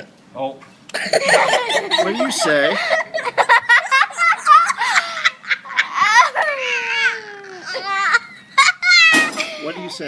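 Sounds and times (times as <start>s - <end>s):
young child giggling: 0.9s - 10.0s.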